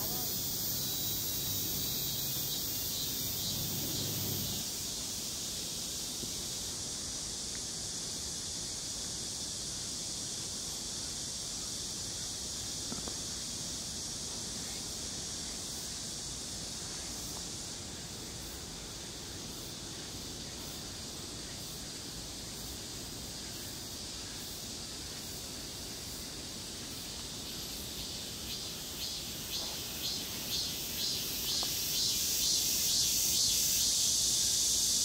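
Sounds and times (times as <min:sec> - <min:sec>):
high-pitched hiss: 0:00.0 - 0:35.0.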